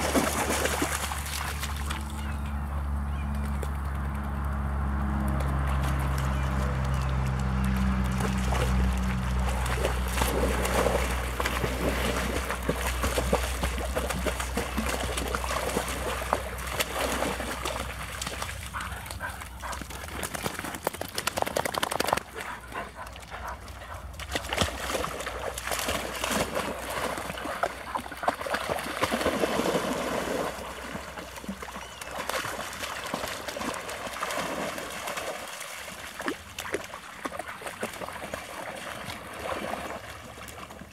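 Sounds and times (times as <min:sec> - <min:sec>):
shallow water splashing: 0:00.0 - 0:02.2, 0:05.8 - 0:40.9.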